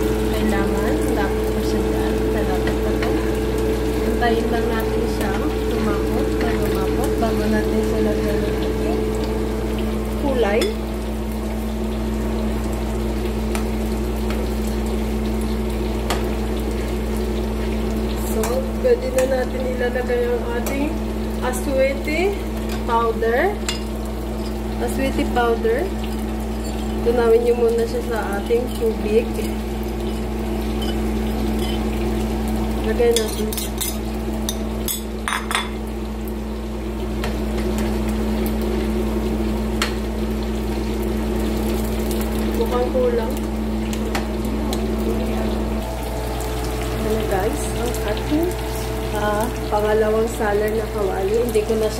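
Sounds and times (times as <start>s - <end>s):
meat sizzling in oil: 0.0s - 51.9s
steady low hum: 0.0s - 51.9s.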